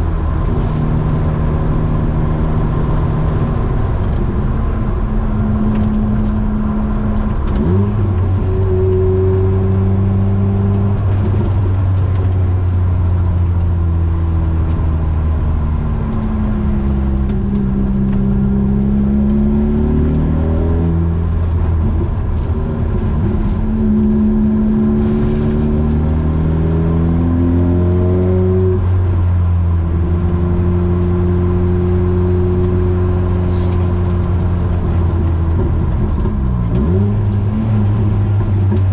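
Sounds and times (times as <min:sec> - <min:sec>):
car engine revving through gears: 0:00.0 - 0:38.9.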